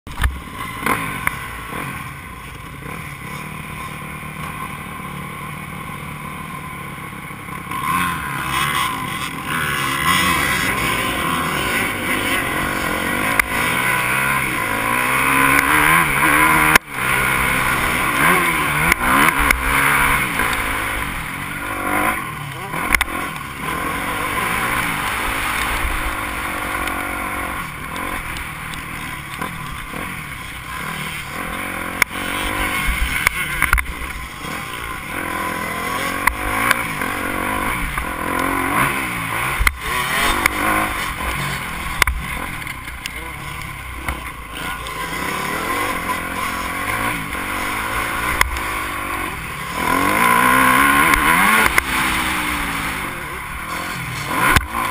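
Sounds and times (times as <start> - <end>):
motocross bike engine revving: 0.1 - 54.9.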